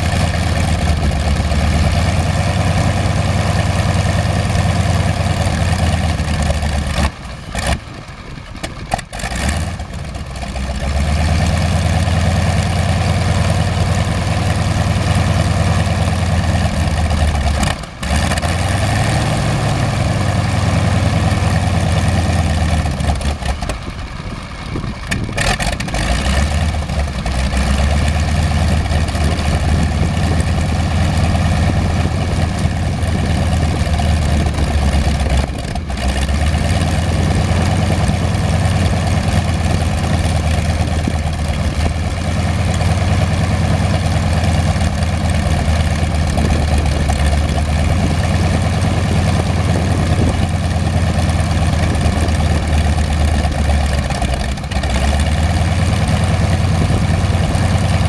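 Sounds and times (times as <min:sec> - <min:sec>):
aircraft engine idling: 0:00.0 - 0:58.0.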